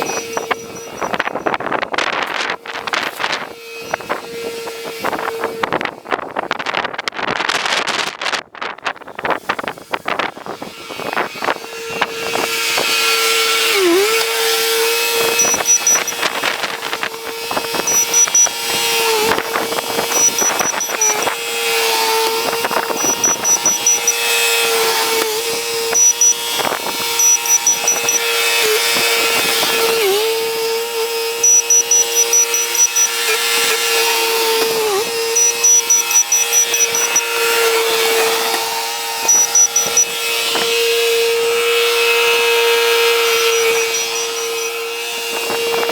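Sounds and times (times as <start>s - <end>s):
skid steer engine whine: 0.0s - 7.8s, 8.9s - 45.9s.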